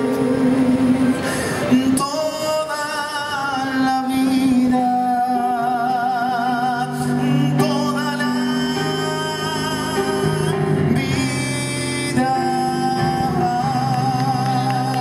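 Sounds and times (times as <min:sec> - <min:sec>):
man singing with vibrato: 0:00.0 - 0:15.0
sustained accompaniment chords: 0:00.0 - 0:15.0.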